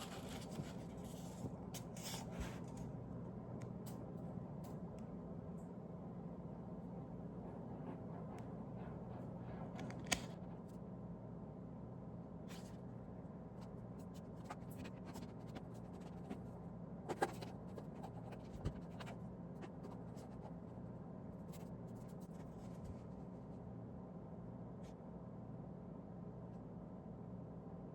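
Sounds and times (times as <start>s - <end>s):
low room hum: 0.0s - 27.9s.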